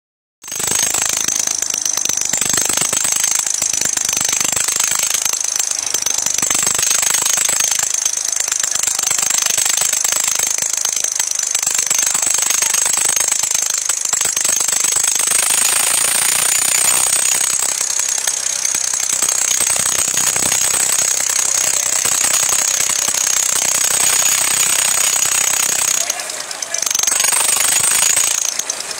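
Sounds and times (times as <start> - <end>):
tractor engines running flat out: 0.4 - 28.9.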